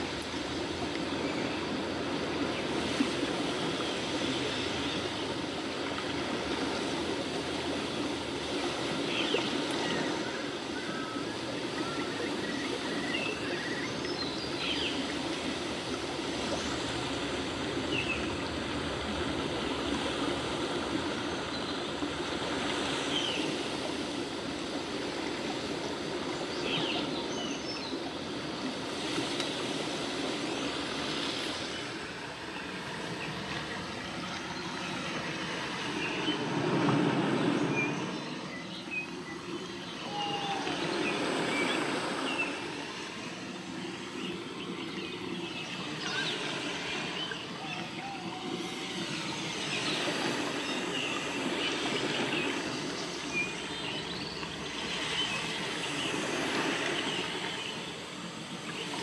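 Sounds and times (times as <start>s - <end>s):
rushing stream: 0.0s - 59.0s.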